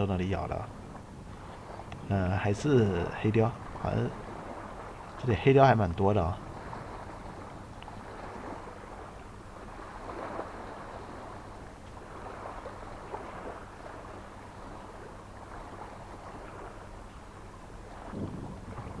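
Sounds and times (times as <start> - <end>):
small waves washing on shore: 0.0 - 19.0.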